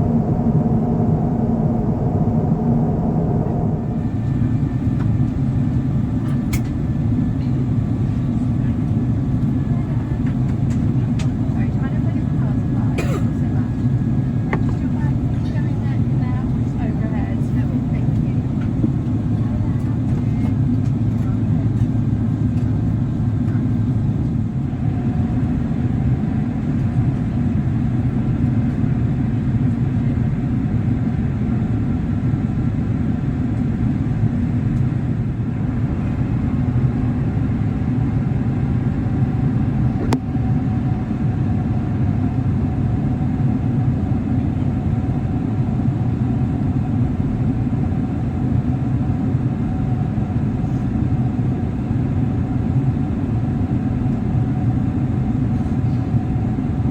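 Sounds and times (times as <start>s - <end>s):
aircraft cabin rumble: 0.0s - 56.9s.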